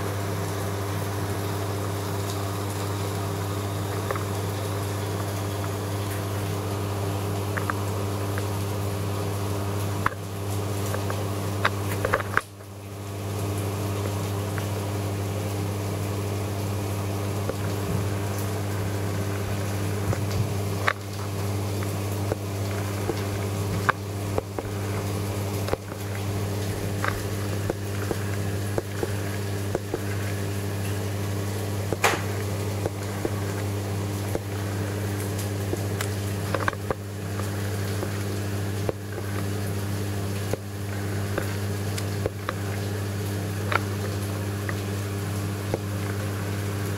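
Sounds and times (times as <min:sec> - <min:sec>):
aquarium pumps humming: 0:00.0 - 0:46.9.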